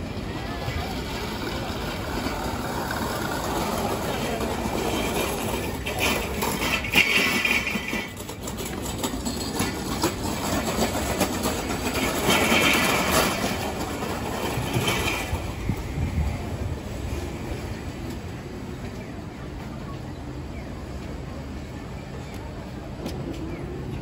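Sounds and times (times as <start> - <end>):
traffic rumble and hiss: 0.0 - 24.0
vehicles passing: 0.0 - 24.0.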